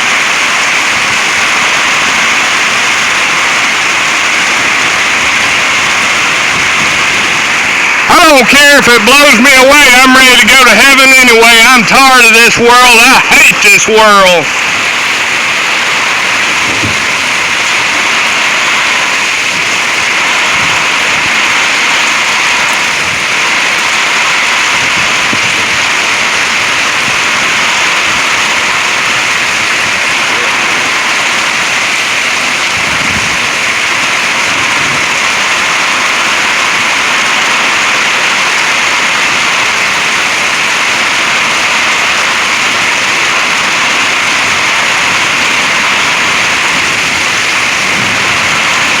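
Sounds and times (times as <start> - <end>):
heavy rain pouring: 0.0 - 49.0.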